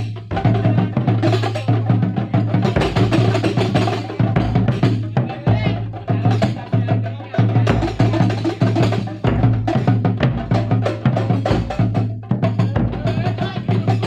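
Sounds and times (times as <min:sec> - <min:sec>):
drums and percussion rhythm: 0:00.0 - 0:14.0.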